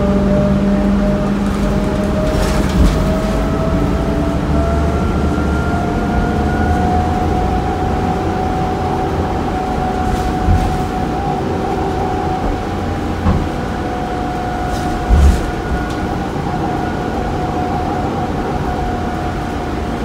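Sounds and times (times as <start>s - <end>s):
bus engine low rumble: 0.0s - 20.0s
drivetrain whine: 0.0s - 20.0s.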